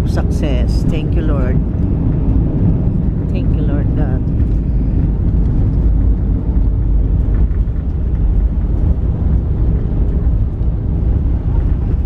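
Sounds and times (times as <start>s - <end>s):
airliner cabin rumble on landing: 0.0s - 12.0s.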